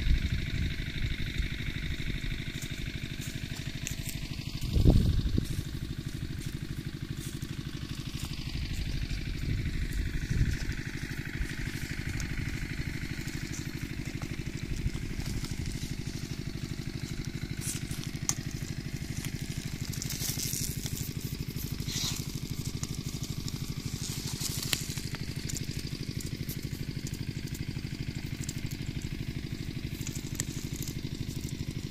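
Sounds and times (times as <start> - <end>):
small engine running: 0.0 - 31.9.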